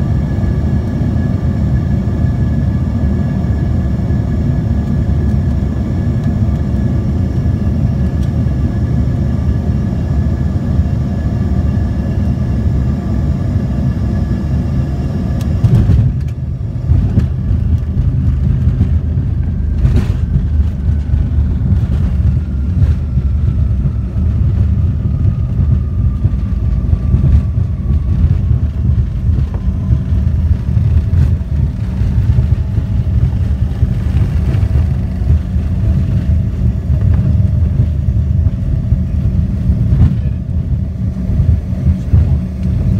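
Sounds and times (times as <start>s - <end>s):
jet engine whine: 0.0s - 42.9s
plane rolling along runway: 0.0s - 42.9s.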